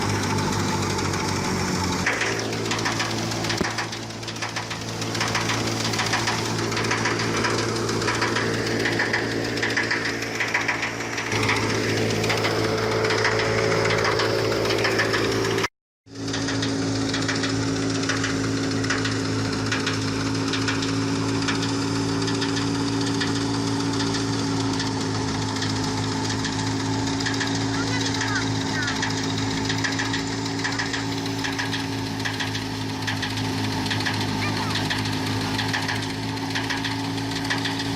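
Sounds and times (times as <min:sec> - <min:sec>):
fast machinery rattling: 0:00.0 - 0:37.9
threshing machine engine hum: 0:00.0 - 0:37.9.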